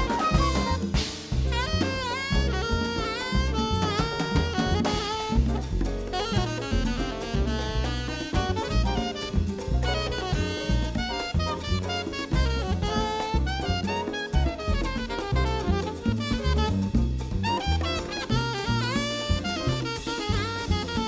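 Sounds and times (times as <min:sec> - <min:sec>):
bass notes: 0:00.0 - 0:21.0
drum kit: 0:00.0 - 0:21.0
saxophone: 0:00.0 - 0:21.0.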